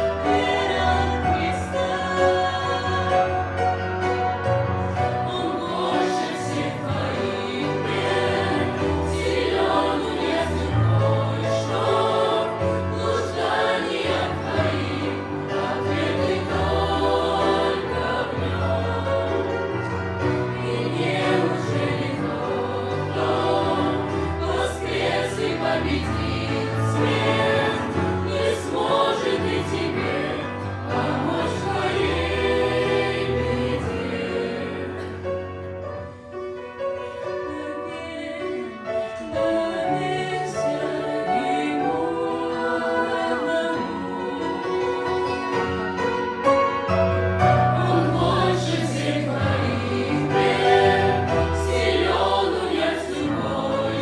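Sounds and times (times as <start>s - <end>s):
choir singing: 0.0s - 36.2s, 36.9s - 54.0s.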